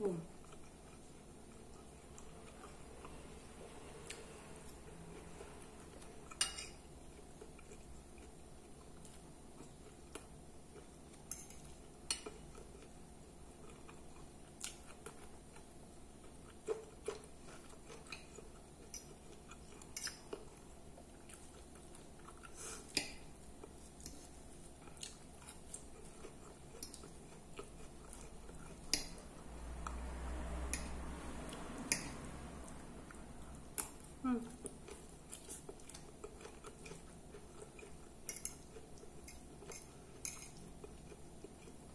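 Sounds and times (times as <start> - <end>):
chewing salad: 0.0 - 41.9.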